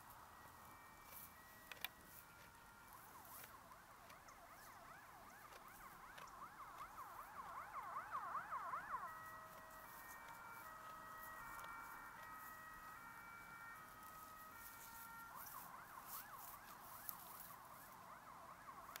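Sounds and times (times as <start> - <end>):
faint emergency vehicle siren: 0.0 - 19.0.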